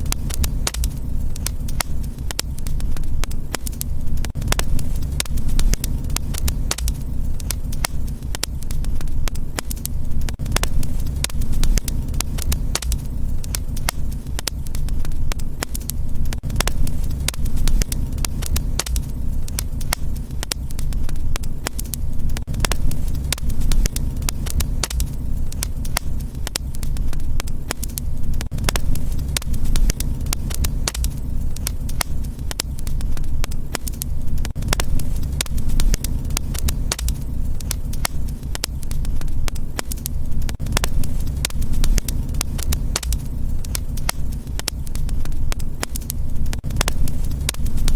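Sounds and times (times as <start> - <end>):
fireplace fire crackling: 0.0 - 47.9
low rumble: 0.0 - 47.9.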